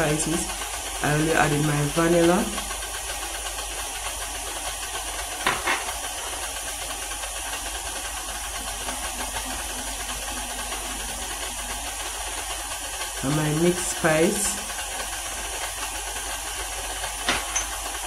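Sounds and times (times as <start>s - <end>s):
stand mixer motor running: 0.0s - 18.0s.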